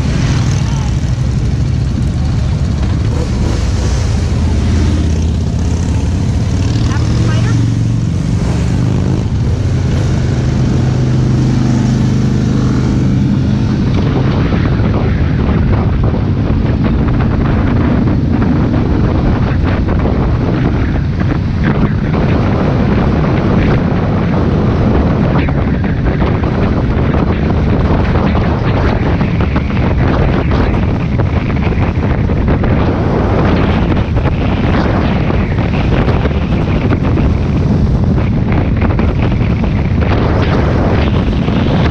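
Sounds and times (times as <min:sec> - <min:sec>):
motorcycle engines running: 0:00.0 - 0:41.9
wind rushing over microphone: 0:00.0 - 0:41.9.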